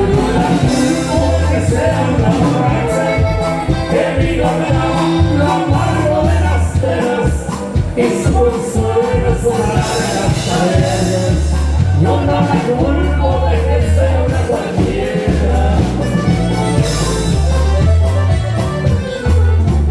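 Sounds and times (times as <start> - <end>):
latin dance band music: 0.0 - 19.9.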